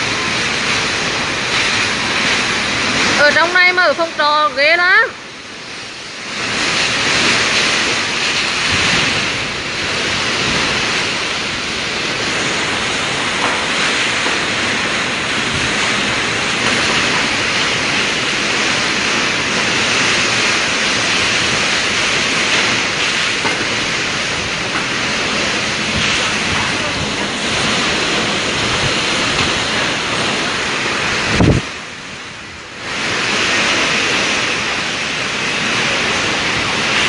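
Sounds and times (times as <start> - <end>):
heavy driving rain: 0.0 - 37.0
strong wind: 0.0 - 37.0.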